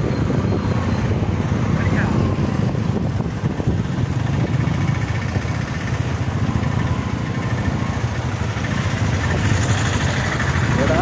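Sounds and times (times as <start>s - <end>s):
motorcycle engine running: 0.7s - 11.0s.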